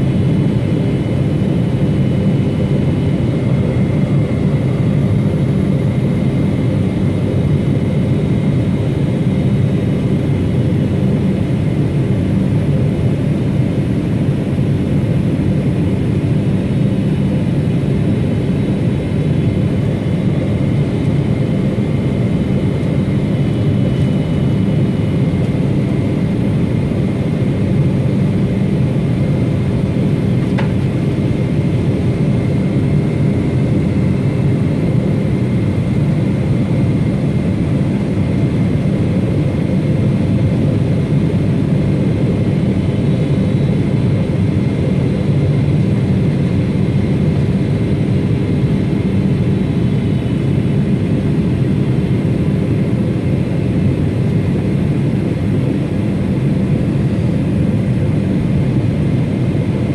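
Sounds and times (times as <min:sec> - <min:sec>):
faint steady whines: 0:00.0 - 0:59.9
jet airliner cabin noise: 0:00.0 - 0:59.9.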